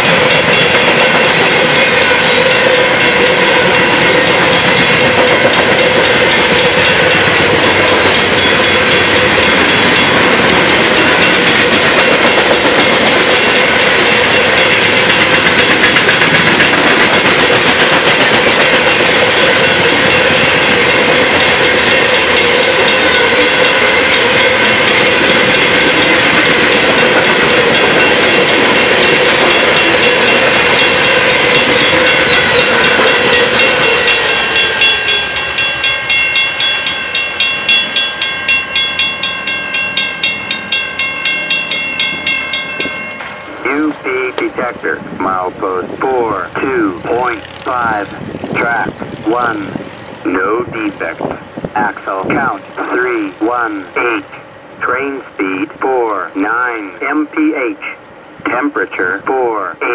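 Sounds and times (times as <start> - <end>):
train wheels rumbling on rails: 0.0 - 59.8.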